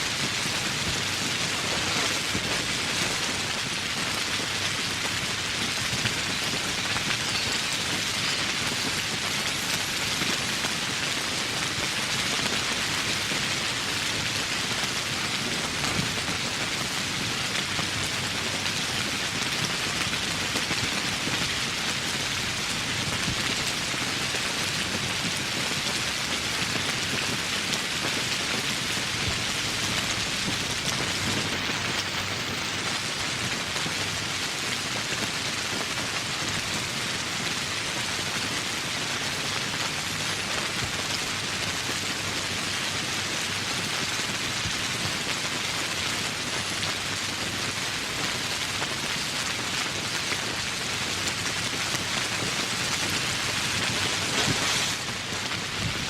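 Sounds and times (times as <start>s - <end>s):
heavy rain on foliage: 0.0s - 56.0s.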